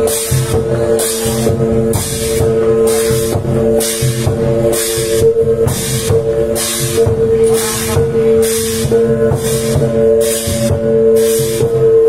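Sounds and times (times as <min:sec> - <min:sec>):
barrel drum beating: 0:00.0 - 0:12.0
cymbals crashing: 0:00.0 - 0:12.0
gongs ringing: 0:00.0 - 0:12.0.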